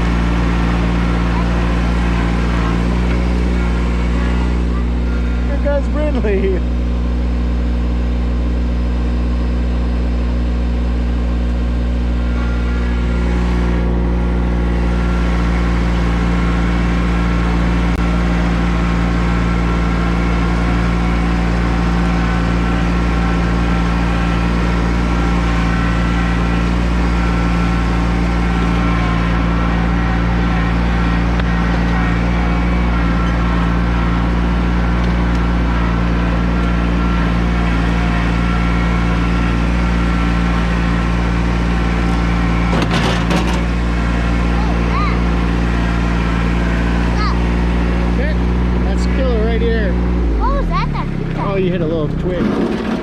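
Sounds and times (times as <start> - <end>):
tractor engine droning: 0.0 - 53.0.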